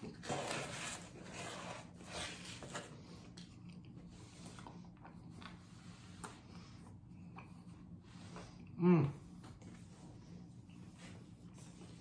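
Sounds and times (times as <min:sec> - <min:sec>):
low steady hum: 0:00.0 - 0:12.0
man chewing food: 0:00.0 - 0:12.0.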